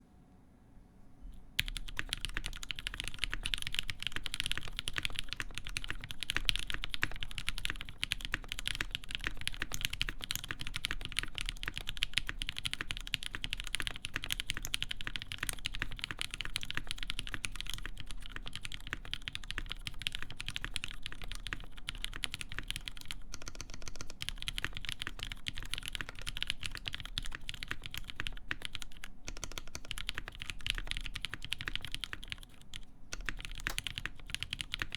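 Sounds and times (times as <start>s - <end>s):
fast typing on mechanical keyboard: 1.6s - 34.9s.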